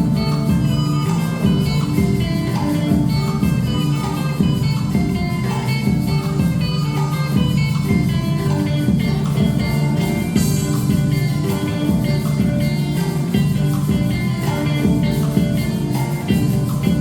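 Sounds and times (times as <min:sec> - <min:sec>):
live instrumental ensemble playing: 0:00.0 - 0:17.0.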